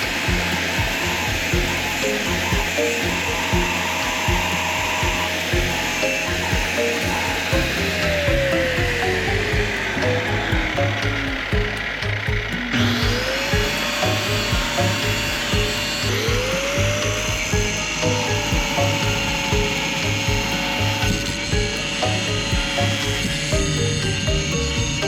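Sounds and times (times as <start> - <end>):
background music with steady beat: 0.0 - 25.0
rising synth glides: 0.0 - 25.0.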